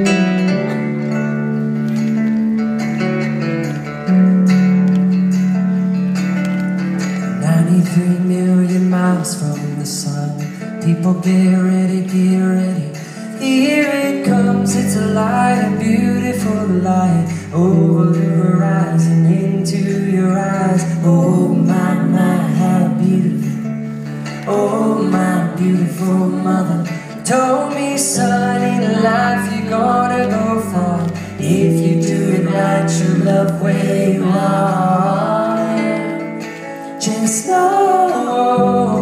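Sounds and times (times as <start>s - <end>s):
strummed acoustic guitar: 0.0s - 39.0s
person singing: 7.3s - 39.0s.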